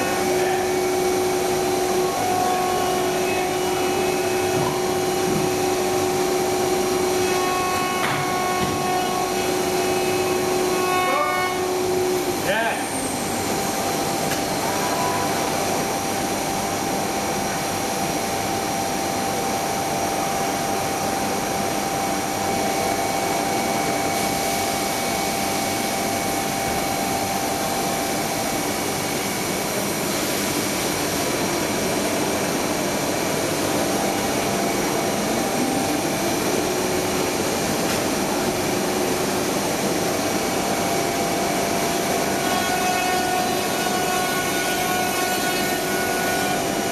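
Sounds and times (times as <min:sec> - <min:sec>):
router machine running with whine: 0:00.0 - 0:19.3, 0:20.0 - 0:46.9.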